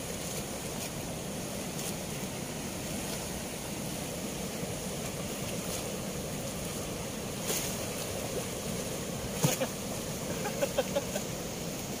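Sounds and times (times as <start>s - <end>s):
turbulent water rushing: 0.0s - 12.0s.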